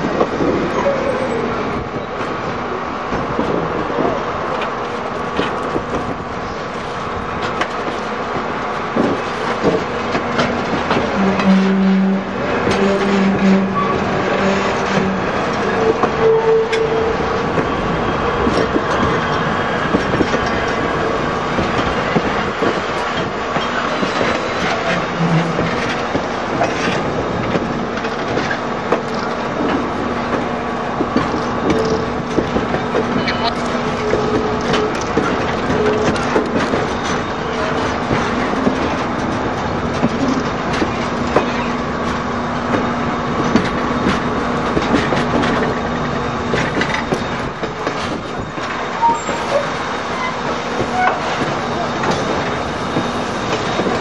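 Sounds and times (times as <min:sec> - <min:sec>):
train wheels clicking over rails: 0:00.0 - 0:54.0.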